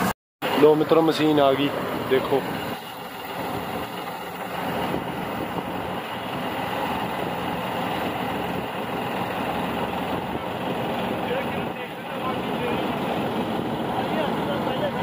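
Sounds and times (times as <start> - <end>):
diesel engines humming: 0.0 - 15.0.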